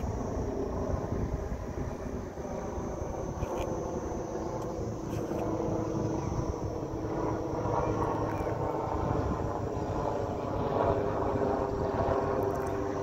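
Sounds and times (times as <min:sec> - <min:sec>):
distant helicopter drone: 0:00.0 - 0:13.0.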